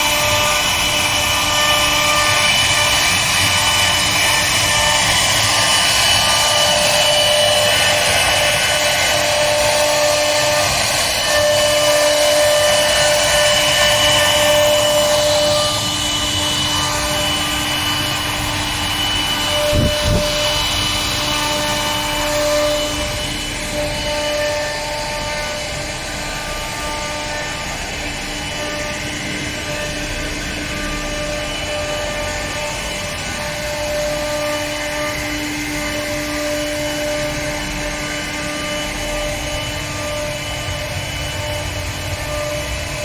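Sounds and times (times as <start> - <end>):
cutter running through wood: 0.0 - 43.0
drive motors whining: 0.0 - 43.0
router spindle whine: 0.0 - 43.0.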